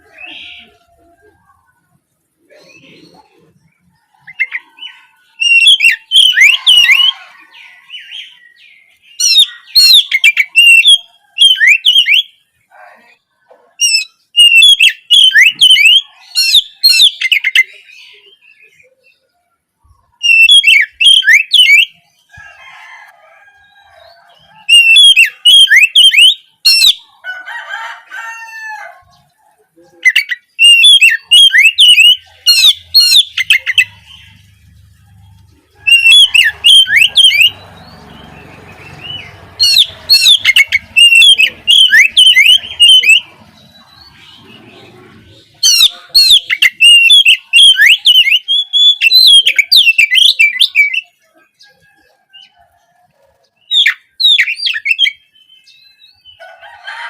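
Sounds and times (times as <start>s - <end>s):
fainter lower bird calls: 0.0s - 27.3s, 28.2s - 56.5s.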